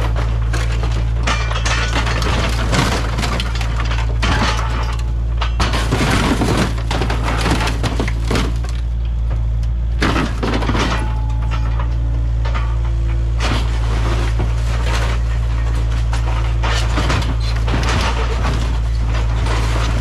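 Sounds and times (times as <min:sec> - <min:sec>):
excavator diesel engine running: 0:00.0 - 0:20.0
metal crunching and cracking: 0:00.0 - 0:20.0.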